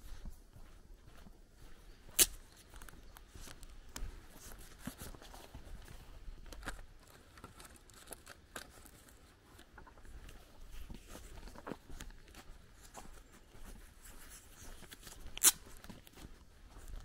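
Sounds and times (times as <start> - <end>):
footsteps: 0.0 - 17.0.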